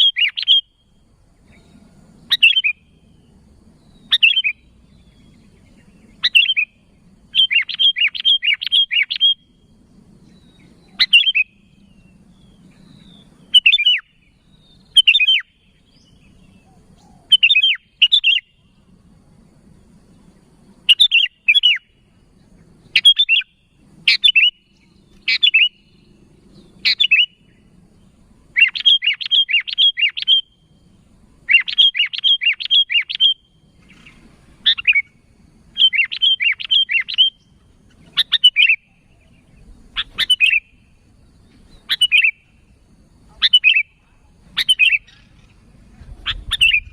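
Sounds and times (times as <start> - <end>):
bulbul chirpy calls: 0.0 - 19.0, 20.7 - 46.9.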